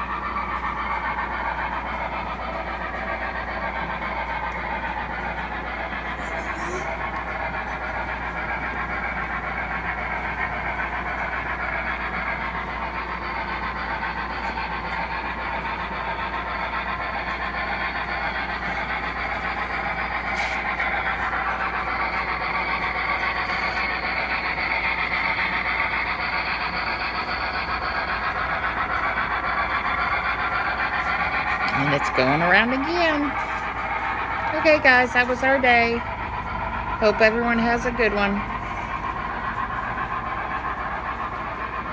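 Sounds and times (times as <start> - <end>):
model train motor whirring: 0.0 - 41.9
wheels on rails: 0.0 - 41.9.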